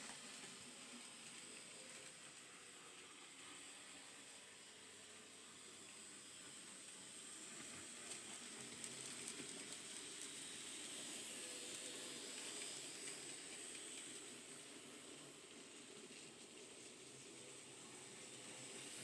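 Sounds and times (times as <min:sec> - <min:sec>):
model train whirring: 0:00.0 - 0:19.0.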